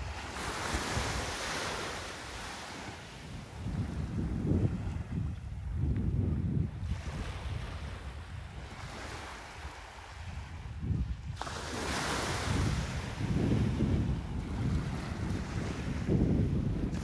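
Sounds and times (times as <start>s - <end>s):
sea surf breaking on beach: 0.0s - 5.2s, 6.8s - 17.0s
wind buffeting microphone: 0.0s - 17.0s.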